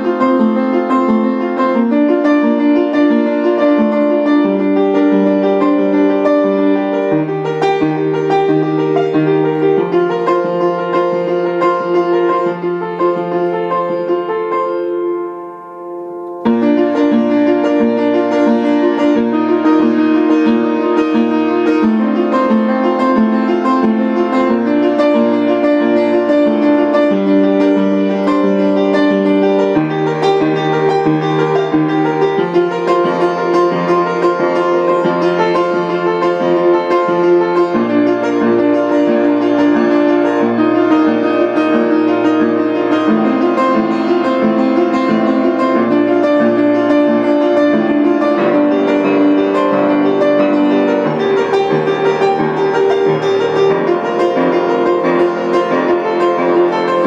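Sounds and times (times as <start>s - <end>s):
piano playing: 0.0s - 57.0s.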